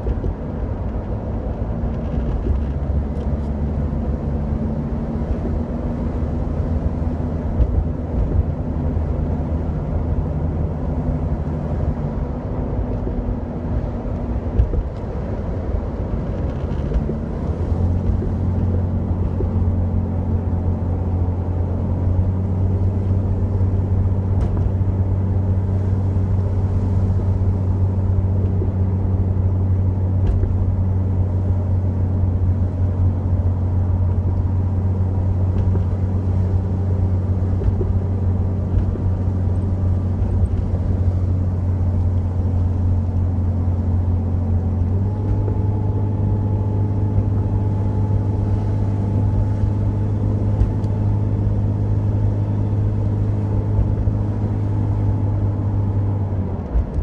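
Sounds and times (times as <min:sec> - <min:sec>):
car engine drone: 0:00.0 - 0:57.0
road noise: 0:00.0 - 0:57.0.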